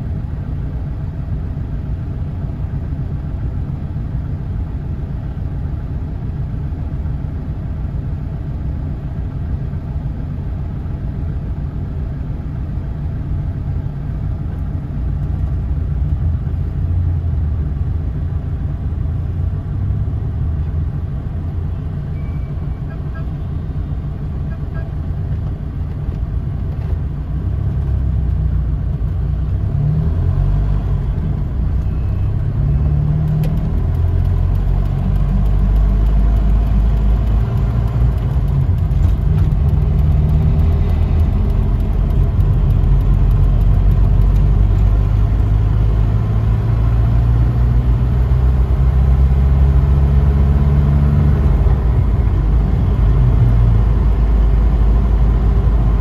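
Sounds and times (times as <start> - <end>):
car engine: 0.0 - 56.0
road noise: 0.0 - 56.0.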